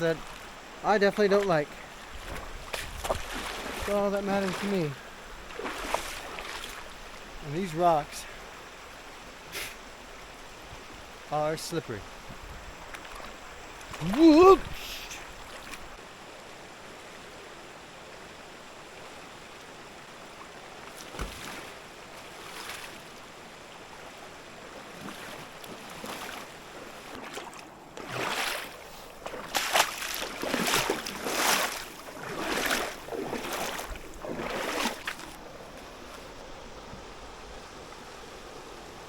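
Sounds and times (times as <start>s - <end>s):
mountain creek rushing: 0.0s - 39.0s.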